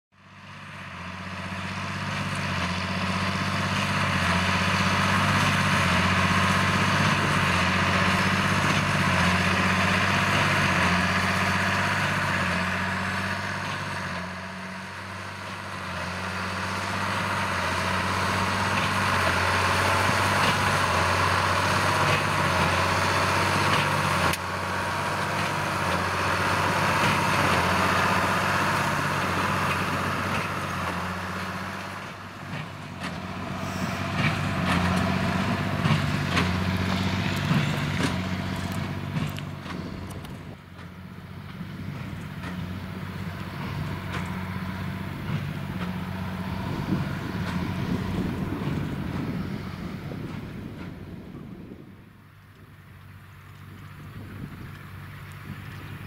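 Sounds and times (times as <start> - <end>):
tractor diesel engine under load: 0.1 - 56.0.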